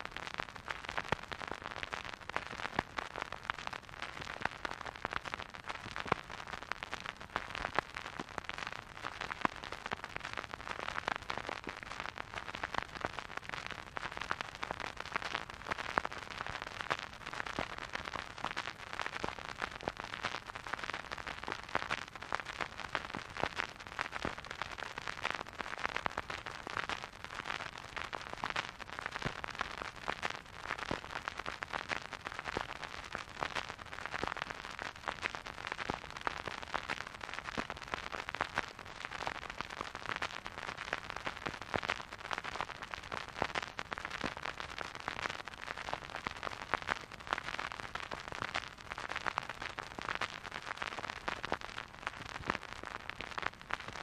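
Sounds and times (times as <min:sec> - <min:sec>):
vinyl record crackle and hiss: 0:00.0 - 0:54.0.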